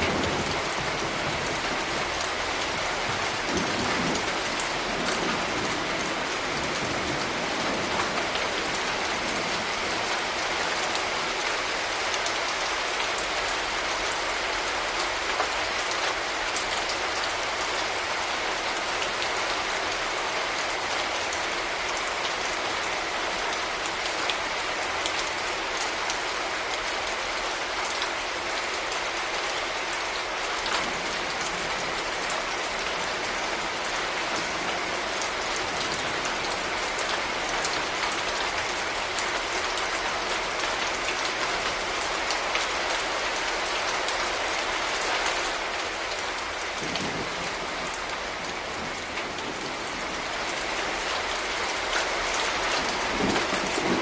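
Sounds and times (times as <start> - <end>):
raindrops ticking on surfaces: 0.0 - 54.0
steady rain: 0.0 - 54.0.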